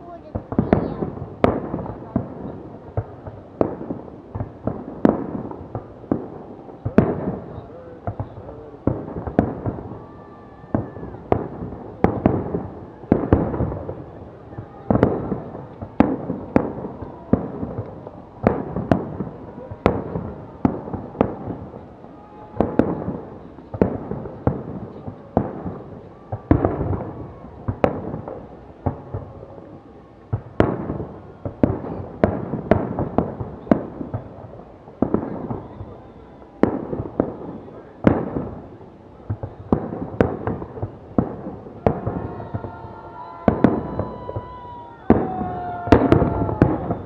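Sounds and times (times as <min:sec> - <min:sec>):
fireworks bursting with echo: 0:00.0 - 0:47.0.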